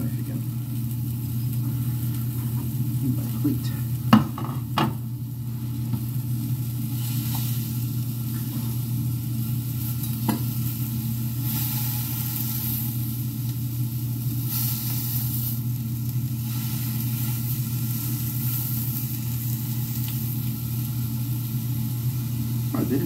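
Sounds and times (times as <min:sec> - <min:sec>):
chicken sizzling in frying: 0:00.0 - 0:23.0.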